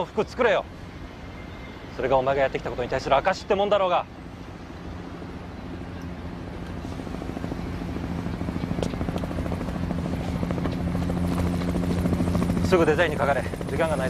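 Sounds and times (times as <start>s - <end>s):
helicopter engine and rotor: 0.0s - 14.0s.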